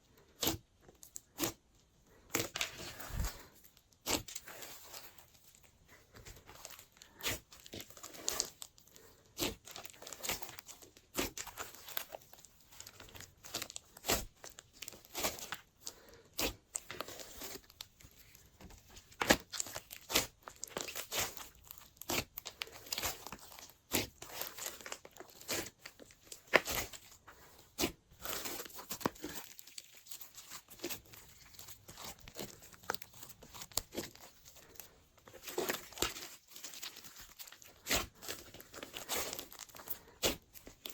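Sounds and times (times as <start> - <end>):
slime squished by hand: 6.3 - 40.9
slime popping and crackling: 6.5 - 40.9.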